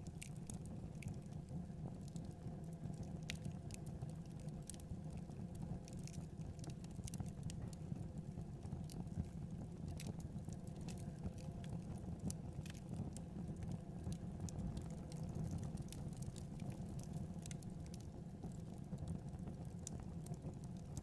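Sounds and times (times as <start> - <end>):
fire crackling and snapping: 0.0 - 21.0
low rumble of flames: 0.0 - 21.0.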